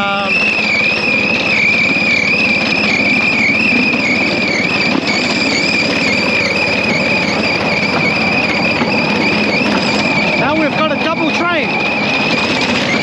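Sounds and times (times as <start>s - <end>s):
high whine: 0.0s - 13.0s
small motor and wheels on rails: 0.0s - 13.0s.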